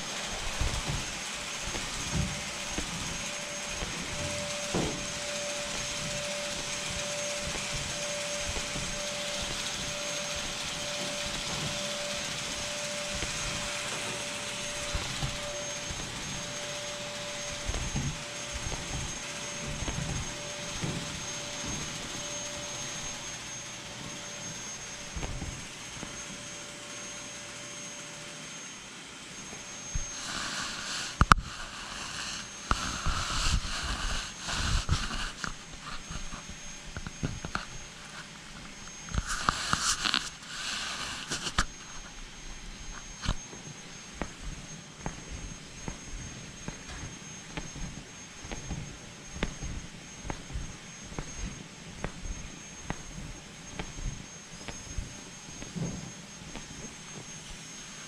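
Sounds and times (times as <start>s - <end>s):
camera rustling and rubbing: 0.0s - 26.3s, 29.8s - 58.0s
constant hum tone: 0.0s - 58.0s
motor or fan rushing: 0.0s - 58.0s.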